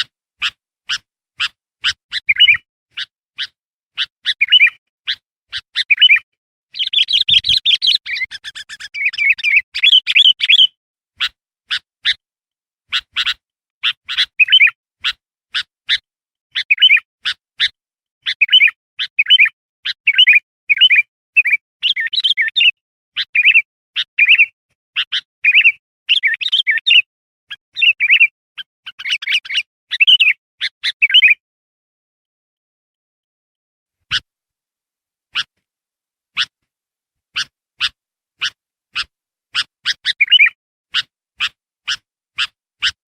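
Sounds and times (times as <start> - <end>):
bird chirping and warbling: 0.0 - 12.2, 12.9 - 31.4, 35.3 - 35.5, 37.4 - 43.0.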